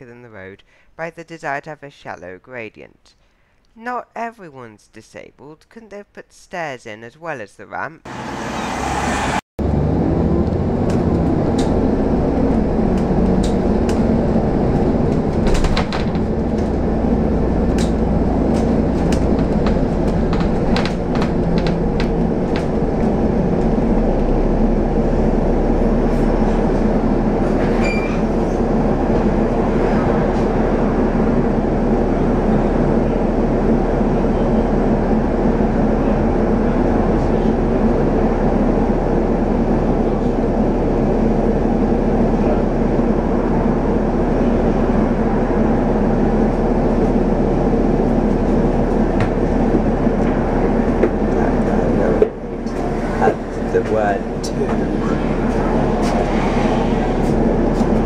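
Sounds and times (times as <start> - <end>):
bus diesel engine idling: 9.6 - 58.0.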